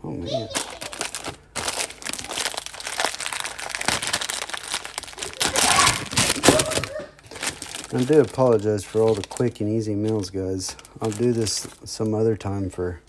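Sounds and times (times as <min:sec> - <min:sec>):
plastic packaging crinkling: 0:00.3 - 0:12.7.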